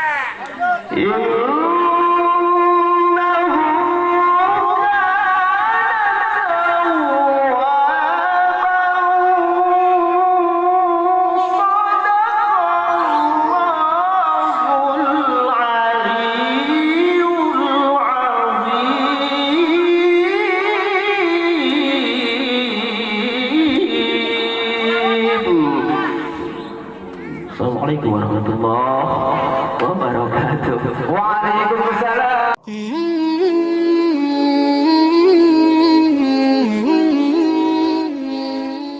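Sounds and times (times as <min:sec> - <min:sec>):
man chanting: 0:00.8 - 0:38.9.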